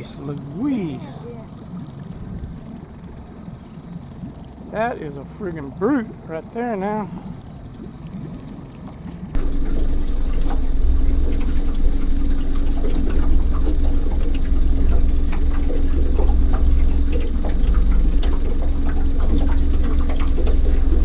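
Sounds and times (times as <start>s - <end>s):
boat motor running: 0.0s - 21.0s
water splashing against hull: 0.0s - 21.0s.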